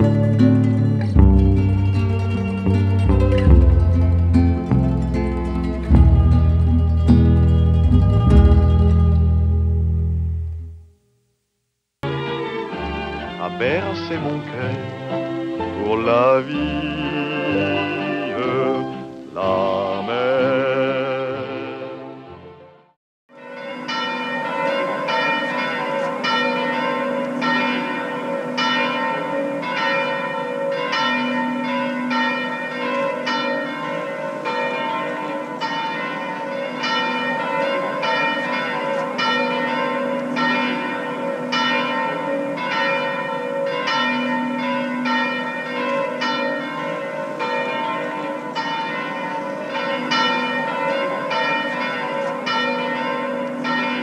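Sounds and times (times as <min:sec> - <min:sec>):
church bells pealing: 0:00.0 - 0:10.7, 0:12.0 - 0:20.6, 0:23.3 - 0:54.0.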